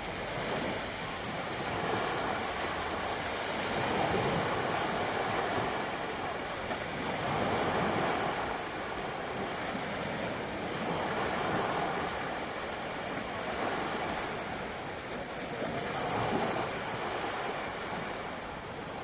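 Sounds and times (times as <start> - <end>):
sea surf washing on shore: 0.0 - 19.0.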